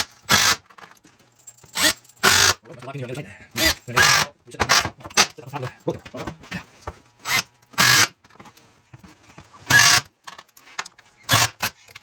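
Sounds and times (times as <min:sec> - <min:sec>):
woodworking tool handling noise: 0:00.0 - 0:12.0.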